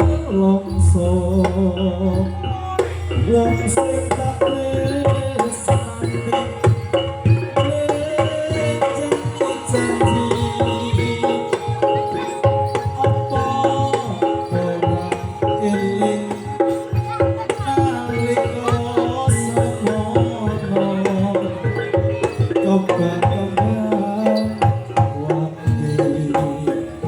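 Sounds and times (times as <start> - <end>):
gamelan music: 0.0 - 27.0
hand drums beating fast: 0.0 - 27.0
tuned percussion notes: 0.0 - 27.0.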